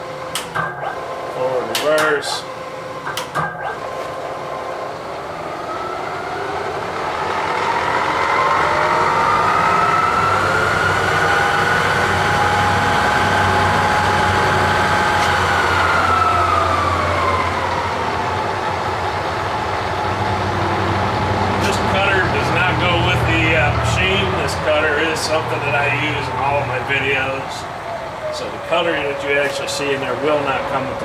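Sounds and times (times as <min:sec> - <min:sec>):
milling machine spindle whine: 0:00.0 - 0:31.0.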